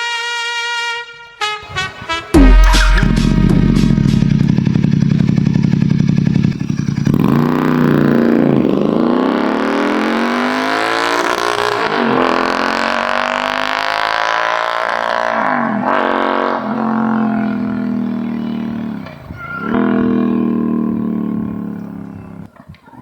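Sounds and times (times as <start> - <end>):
motorcycle engine accelerating: 2.4 - 22.6.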